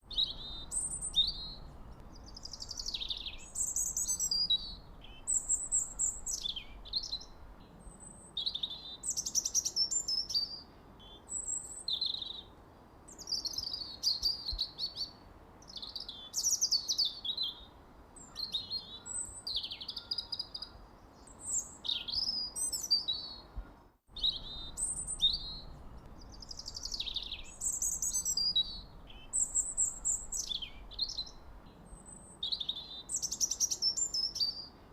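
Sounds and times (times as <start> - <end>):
faint background hiss: 0.0 - 34.9
songbirds chirping and trilling: 0.0 - 34.9.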